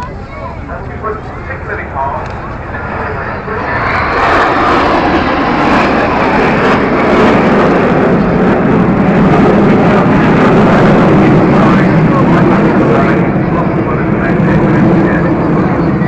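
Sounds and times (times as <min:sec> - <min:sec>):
jets flying past: 0:01.0 - 0:16.0.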